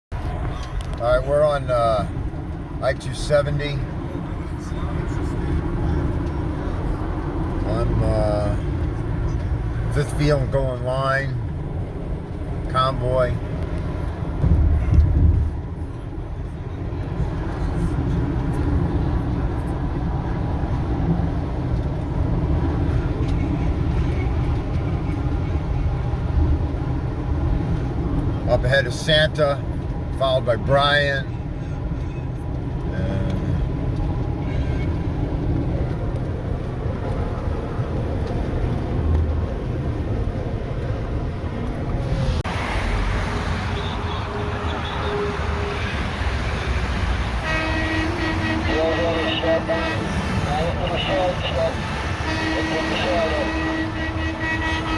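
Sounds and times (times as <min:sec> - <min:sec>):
vehicle road and engine noise: 0:00.1 - 0:54.9.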